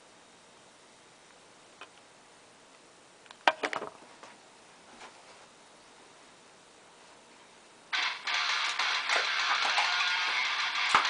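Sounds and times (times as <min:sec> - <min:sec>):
faint room hiss: 0:00.0 - 0:11.0.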